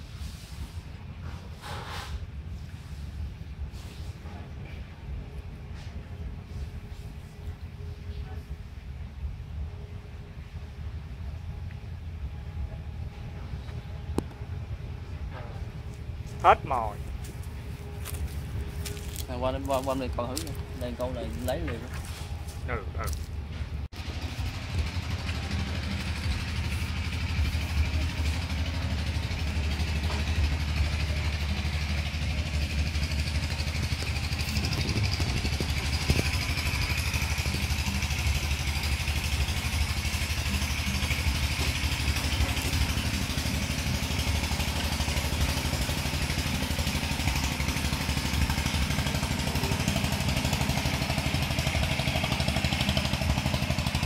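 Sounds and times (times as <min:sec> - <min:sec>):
small engine droning: 0:00.0 - 0:54.0.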